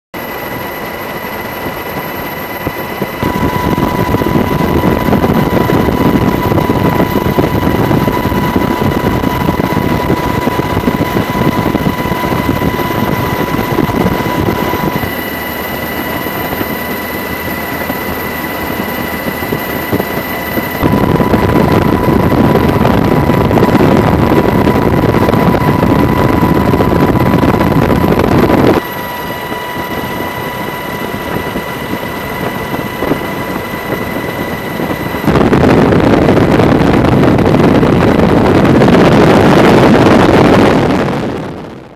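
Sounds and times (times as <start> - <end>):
helicopter engine and rotor noise: 0.2 - 41.9.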